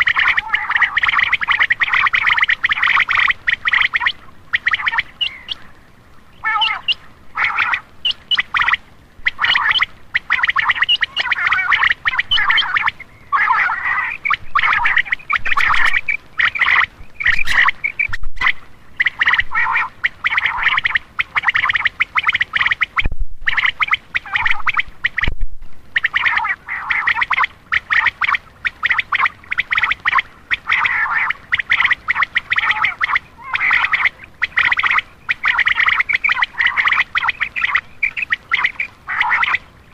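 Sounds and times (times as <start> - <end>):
quail calling: 0.0 - 25.3, 25.9 - 39.9.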